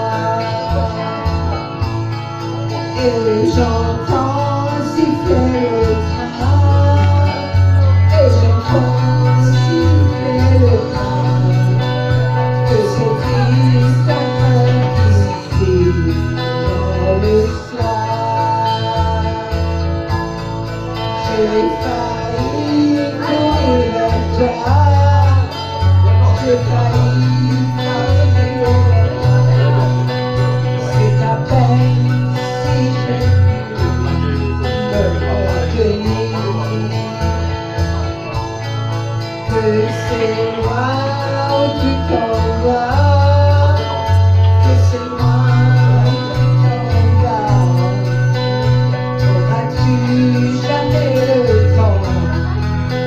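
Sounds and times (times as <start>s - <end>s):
woman singing into microphone: 0.0s - 1.9s, 2.6s - 19.4s, 21.0s - 37.6s, 39.2s - 53.0s
karaoke backing track: 0.0s - 53.0s.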